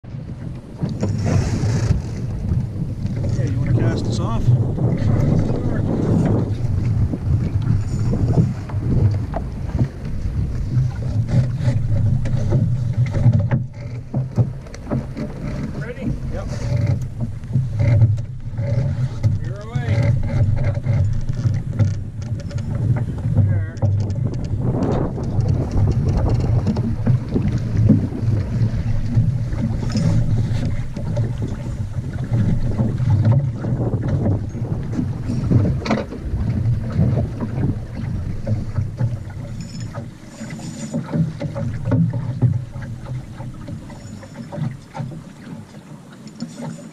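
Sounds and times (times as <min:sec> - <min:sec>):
wind buffeting microphone: 0:00.0 - 0:45.5
light knocks of boat gear: 0:00.2 - 0:46.9.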